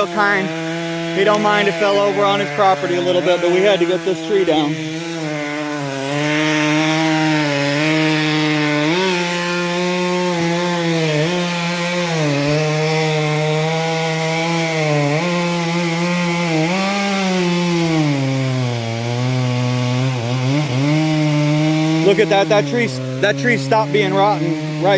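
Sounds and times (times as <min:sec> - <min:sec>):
chainsaw cutting wood: 0:00.0 - 0:24.9.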